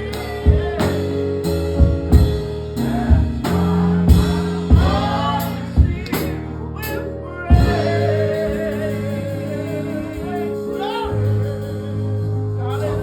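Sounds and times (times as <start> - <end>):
gospel singing: 0.0 - 13.0
held chords: 0.0 - 13.0
drum strokes: 0.1 - 12.0.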